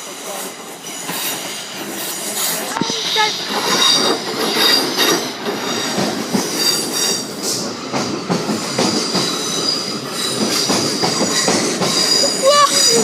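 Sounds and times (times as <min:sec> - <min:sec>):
train wheels clicking over rails: 0:00.0 - 0:13.0.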